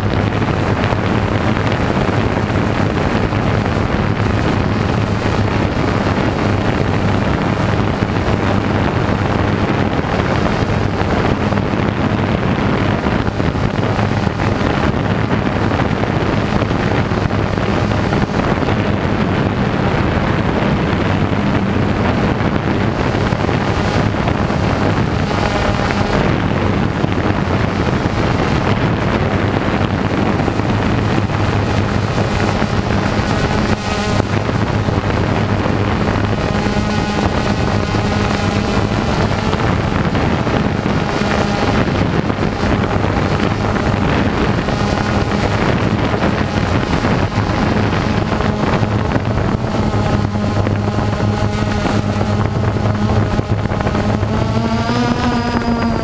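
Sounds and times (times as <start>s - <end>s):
drone propellers humming: 0.0s - 56.0s
wind noise on microphone: 0.0s - 56.0s.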